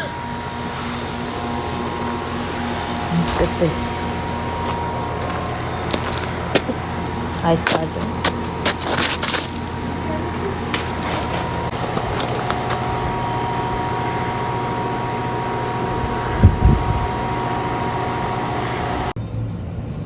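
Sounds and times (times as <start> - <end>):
mechanical whir of fan: 0.0 - 20.0.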